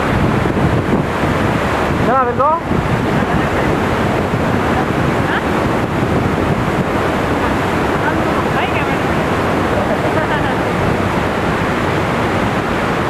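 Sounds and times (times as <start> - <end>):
waterfall rushing onto rocks: 0.0 - 13.0.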